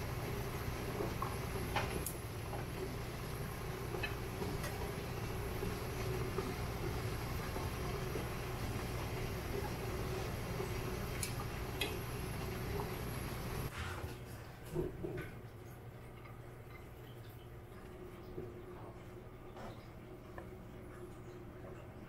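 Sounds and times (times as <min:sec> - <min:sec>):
steamer pot hum and hiss: 0:00.0 - 0:22.0.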